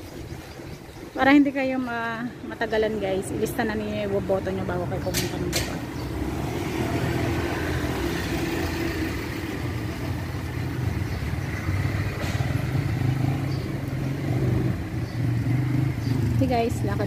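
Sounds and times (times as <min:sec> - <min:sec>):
street traffic: 0:00.0 - 0:17.0
vehicle engine running: 0:02.0 - 0:17.0.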